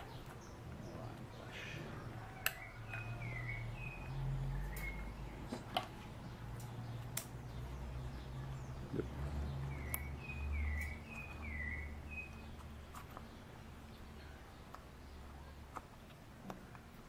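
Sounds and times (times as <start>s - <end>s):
small bird chirping: 0.0s - 16.4s.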